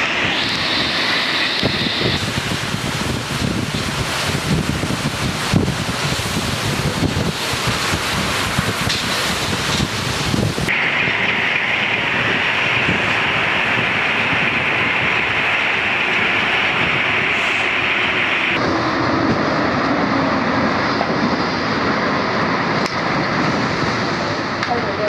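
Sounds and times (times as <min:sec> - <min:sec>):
metro train rushing through tunnel: 0:00.0 - 0:25.0.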